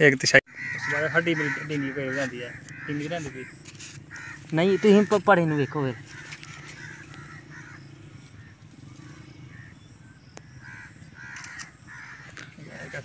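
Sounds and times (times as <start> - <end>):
crows cawing: 0.5 - 13.0
steady low hum: 0.5 - 13.0.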